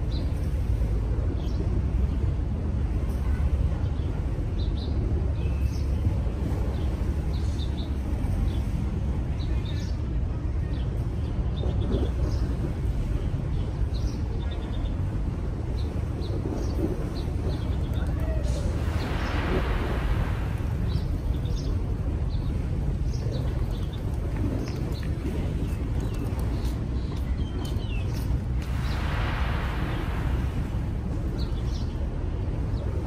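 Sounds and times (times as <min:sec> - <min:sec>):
low outdoor rumble: 0:00.0 - 0:33.0
small birds chirping: 0:03.1 - 0:33.0.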